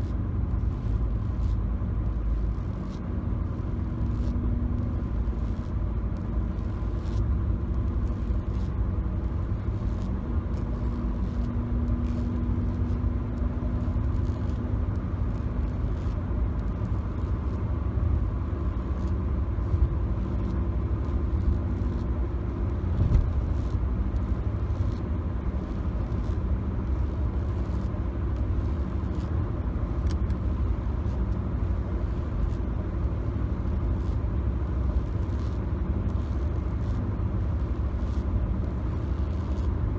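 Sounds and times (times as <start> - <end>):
car road noise rumble: 0.0 - 39.9
faint steady hum: 0.0 - 39.9.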